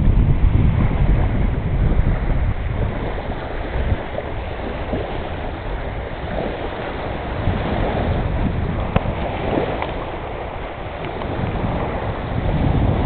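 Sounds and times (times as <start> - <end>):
waves lapping: 0.0 - 13.0
wind buffeting microphone: 0.0 - 13.0.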